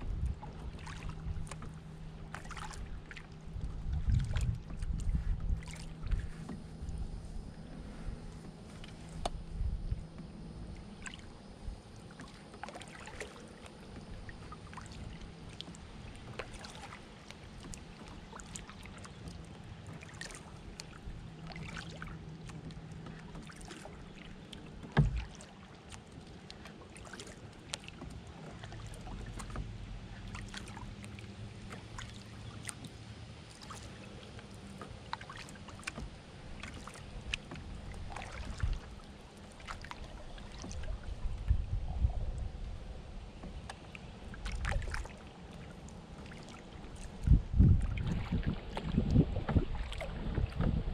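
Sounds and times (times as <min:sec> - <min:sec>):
paddle strokes in water: 0:00.0 - 0:50.9.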